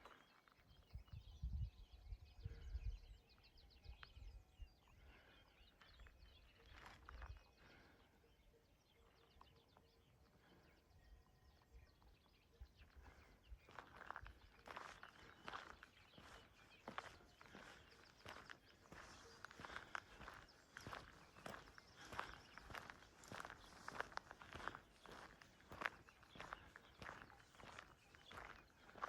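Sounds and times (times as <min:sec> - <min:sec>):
faint bird chirps: 0:00.0 - 0:29.0.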